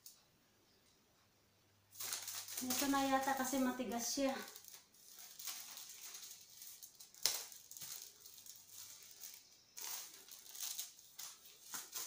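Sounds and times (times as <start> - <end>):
sharp paper crackle: 1.9 - 12.0
paper envelope rustling: 2.0 - 12.0.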